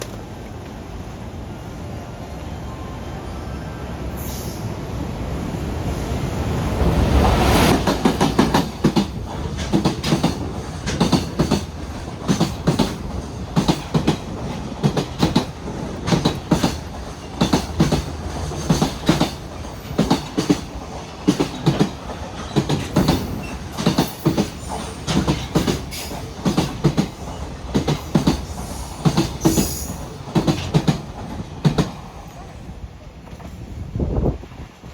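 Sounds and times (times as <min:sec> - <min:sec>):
wheels clickety-clack on rail joints: 0:00.0 - 0:01.0, 0:06.8 - 0:34.9
locomotive rushing past: 0:02.7 - 0:34.7.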